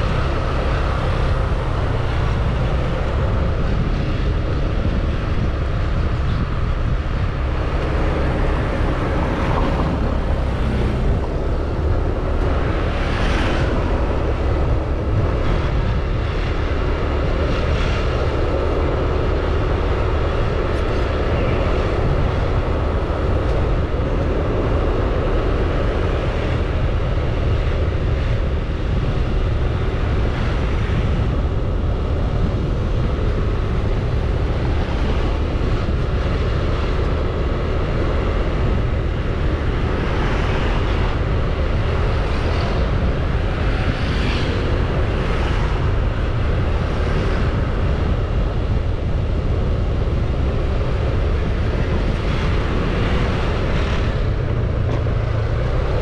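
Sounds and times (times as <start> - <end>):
scooter road noise: 0.0 - 56.0
wind rush: 0.0 - 56.0.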